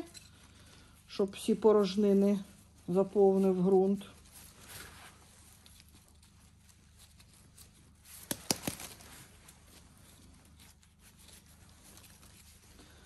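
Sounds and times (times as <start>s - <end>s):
soil rustling in pot: 0.0s - 13.0s.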